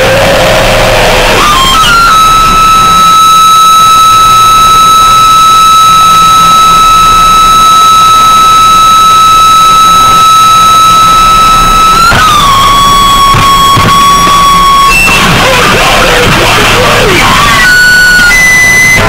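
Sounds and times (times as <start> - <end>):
guitar amplifier feedback: 0.0 - 19.0
low hum: 0.0 - 19.0.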